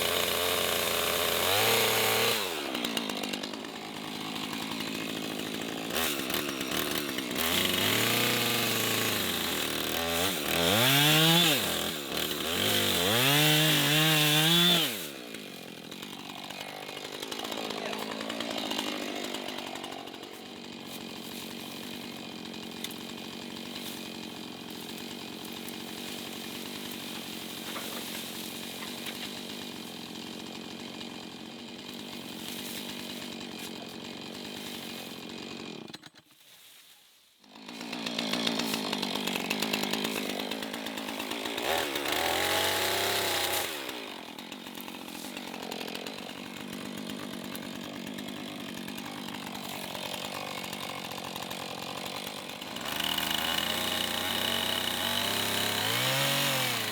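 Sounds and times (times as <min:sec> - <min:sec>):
chainsaw cutting wood: 0:00.0 - 0:36.8, 0:37.4 - 0:56.9.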